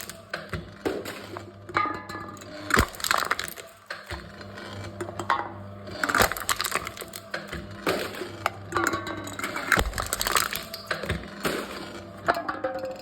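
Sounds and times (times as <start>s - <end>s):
metal cans being crushed: 0.0s - 13.0s.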